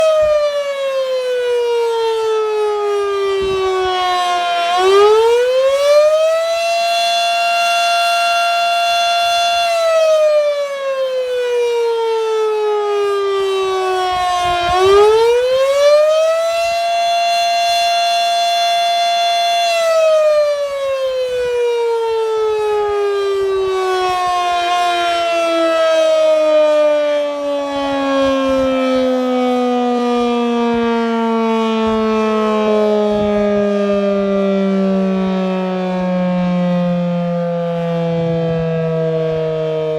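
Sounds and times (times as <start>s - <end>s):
mechanical warning siren wailing: 0.0s - 39.9s.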